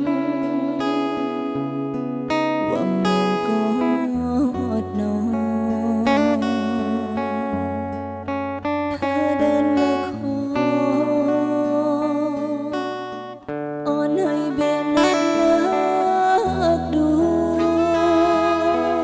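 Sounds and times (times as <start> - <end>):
guitar-led pop band music: 0.0 - 19.0.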